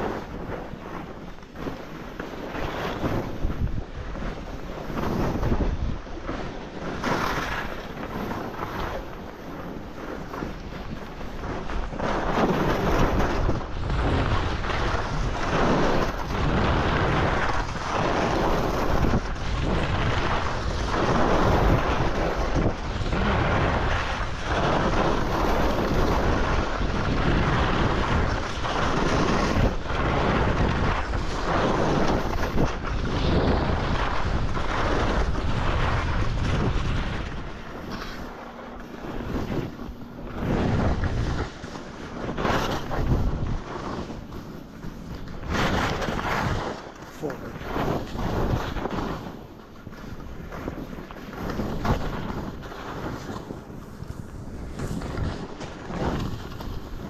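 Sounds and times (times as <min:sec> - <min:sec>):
skis scraping on packed snow: 0:00.0 - 0:57.0
wind noise on microphone: 0:00.0 - 0:57.0.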